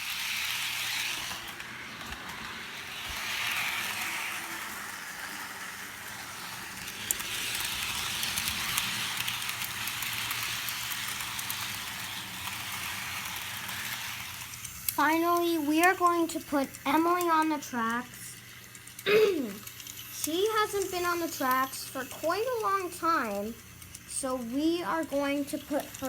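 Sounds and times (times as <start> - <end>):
model train whirring: 0.0 - 26.0.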